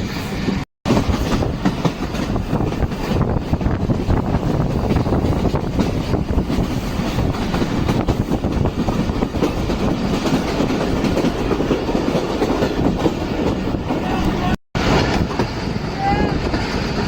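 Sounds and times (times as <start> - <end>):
moving train running noise: 0.0 - 17.0.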